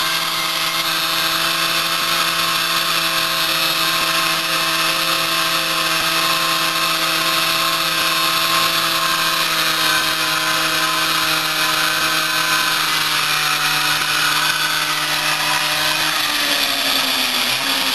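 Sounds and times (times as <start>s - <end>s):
moped engine at high revs: 0.0s - 17.9s.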